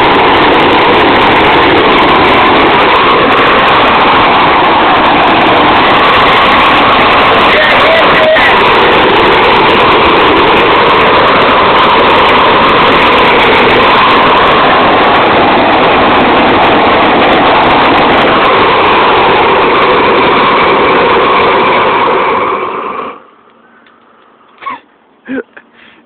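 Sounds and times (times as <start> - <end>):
propane torch roaring: 0.0 - 25.1.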